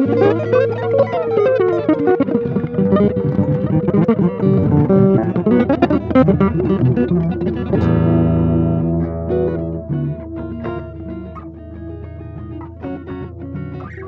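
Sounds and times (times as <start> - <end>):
electric guitar improvising: 0.0 - 14.0.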